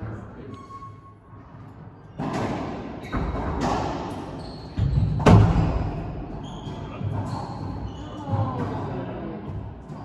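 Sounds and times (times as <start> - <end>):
racquetball impacts echoing: 1.9 - 10.0.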